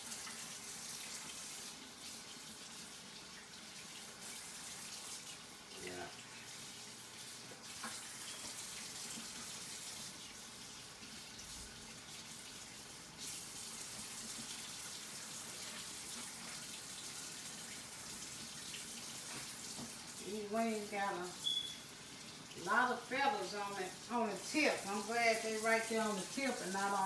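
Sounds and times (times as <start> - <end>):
kitchen faucet running into sink: 0.0 - 27.0.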